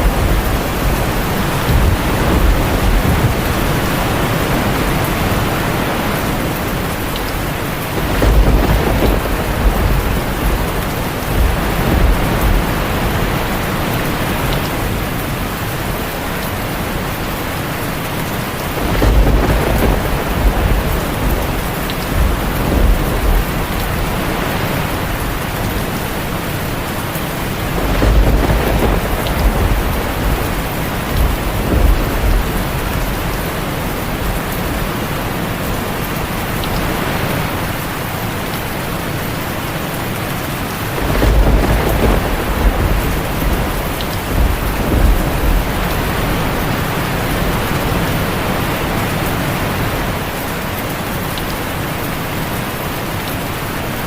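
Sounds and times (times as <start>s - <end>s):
rolling thunder: 0.0s - 37.9s, 40.6s - 49.0s
heavy rain on a tin roof: 0.0s - 54.0s.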